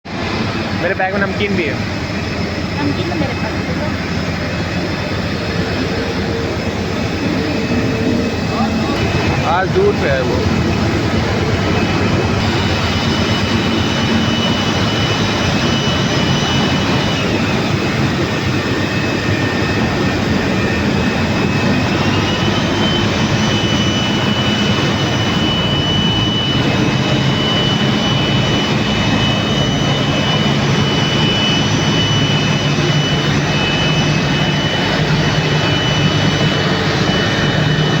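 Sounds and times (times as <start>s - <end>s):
jet engine roar: 0.0s - 38.0s
high engine whine: 0.1s - 38.0s.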